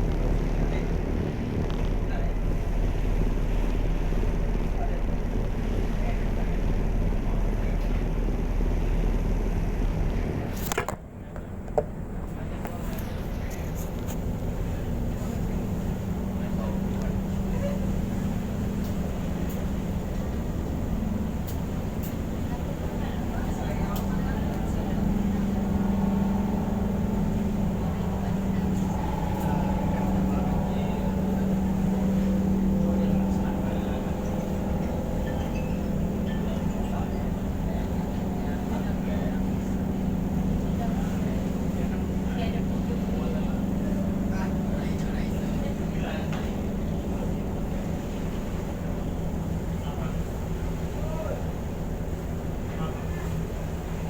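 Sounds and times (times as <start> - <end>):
car ferry engine rumble: 0.0 - 54.0.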